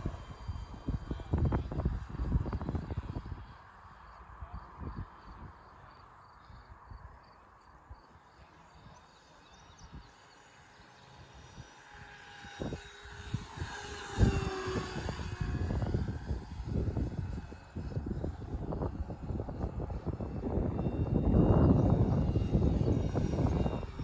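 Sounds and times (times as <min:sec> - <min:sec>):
model plane electric motor passing: 0:00.0 - 0:05.6, 0:07.8 - 0:24.0.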